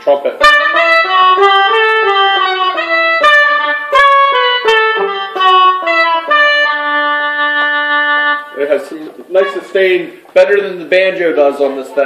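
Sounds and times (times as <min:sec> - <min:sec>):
synth trumpet melody: 0:00.4 - 0:10.1.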